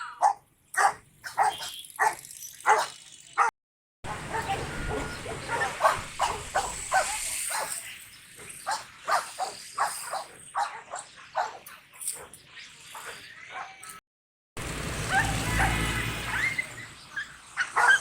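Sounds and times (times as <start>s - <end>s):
dog barking: 0.0s - 3.5s, 4.1s - 7.9s, 8.6s - 12.3s, 13.0s - 14.0s, 15.1s - 18.0s.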